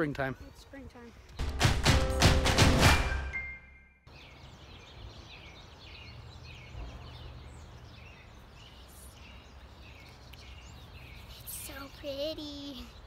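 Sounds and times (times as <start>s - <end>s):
songbirds chirping: 0.0s - 1.6s, 4.0s - 13.0s.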